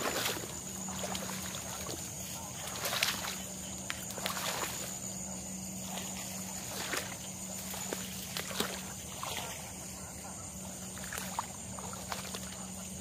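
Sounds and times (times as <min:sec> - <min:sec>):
low hum: 0:00.0 - 0:13.0
rustling through wet reeds: 0:00.0 - 0:13.0.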